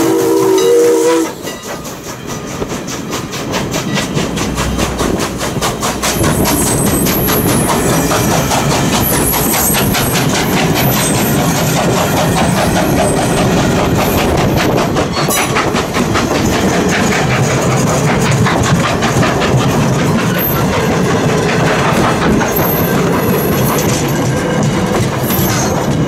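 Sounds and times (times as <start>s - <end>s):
train wheels clickety-clack: 0.0s - 26.0s.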